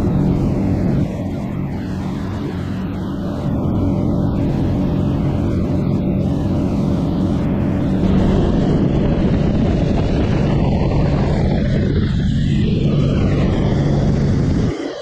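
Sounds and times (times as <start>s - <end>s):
boat engines droning: 0.0s - 15.0s
water rushing along hull: 0.0s - 15.0s.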